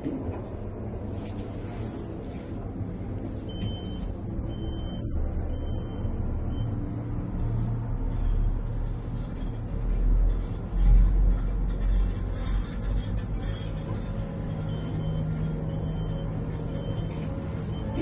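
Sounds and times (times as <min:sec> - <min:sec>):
gondola cabin rumble: 0:00.0 - 0:18.0.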